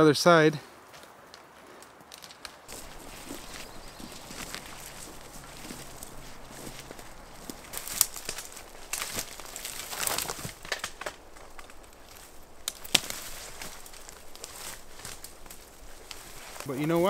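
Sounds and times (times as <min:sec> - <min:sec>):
footsteps through dry brush: 0:00.7 - 0:17.0
twigs snapping: 0:02.1 - 0:17.0.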